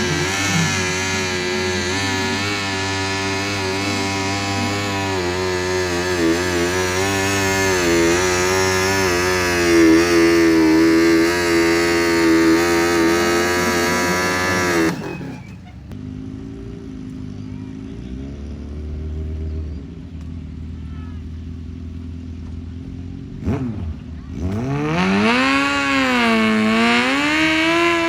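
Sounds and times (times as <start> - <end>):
tractor engine revving: 0.0 - 20.8, 21.4 - 28.0.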